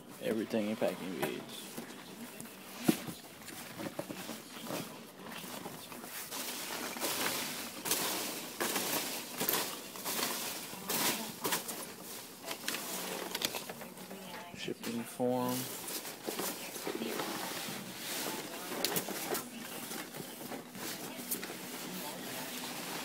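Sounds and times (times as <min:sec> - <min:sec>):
foam packing peanuts rustling: 0:00.0 - 0:23.0.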